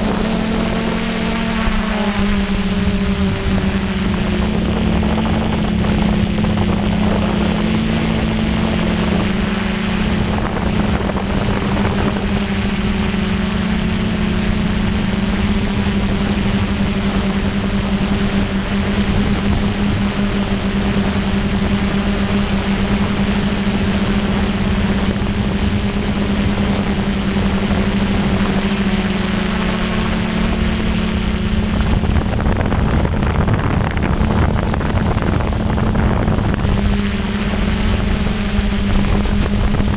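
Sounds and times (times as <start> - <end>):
drone motors humming: 0.0 - 39.9
wind noise on microphone: 0.0 - 39.9.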